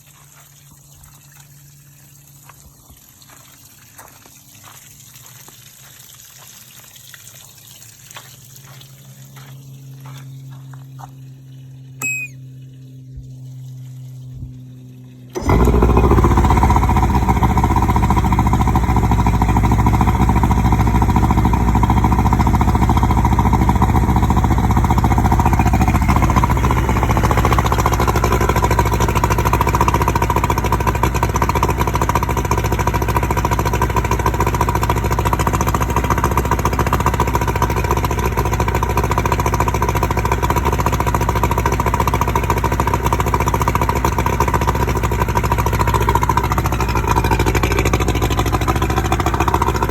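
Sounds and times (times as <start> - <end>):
outboard motor running: 0.0 - 49.9.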